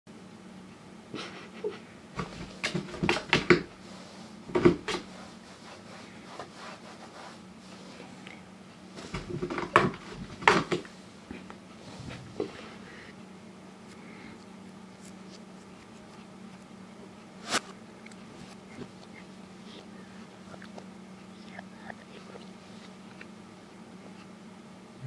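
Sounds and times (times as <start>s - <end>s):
faint steady hum: 0.1s - 25.0s.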